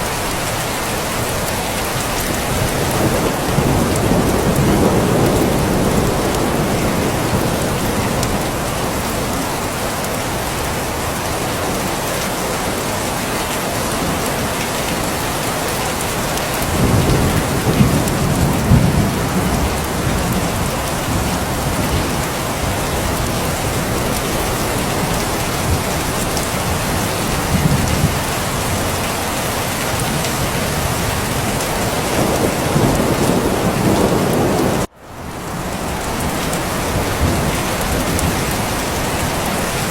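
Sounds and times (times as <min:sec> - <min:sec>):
steady rain falling: 0:00.0 - 0:39.9
thunder rumbling: 0:01.2 - 0:12.0, 0:12.6 - 0:39.9.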